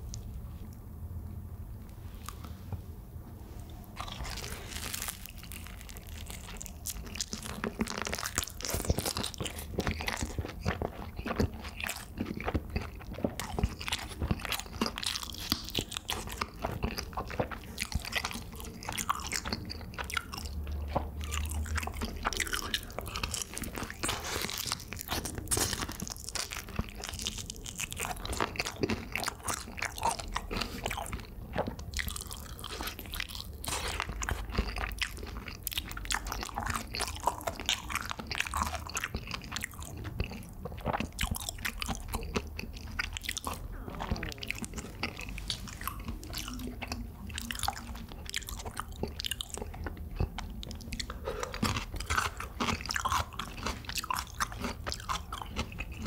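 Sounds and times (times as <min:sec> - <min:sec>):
crunching and chewing fried chicken: 0:03.7 - 0:56.0.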